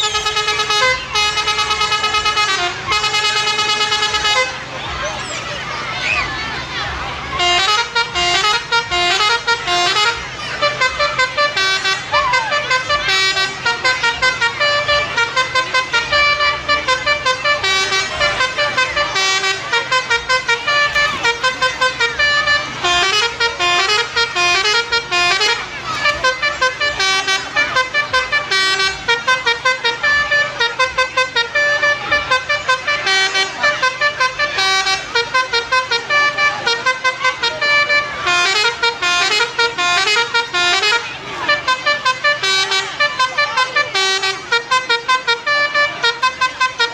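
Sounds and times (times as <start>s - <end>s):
multi-tone bus horn melody: 0.0s - 46.9s.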